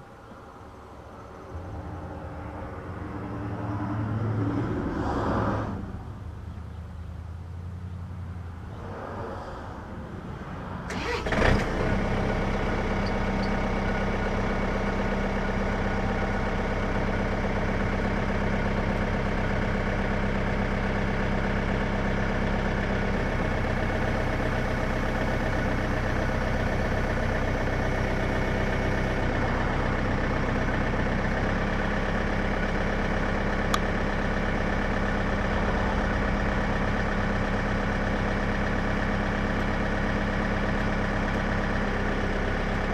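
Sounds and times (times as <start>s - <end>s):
diesel engine cranking and idling: 0.0s - 42.9s.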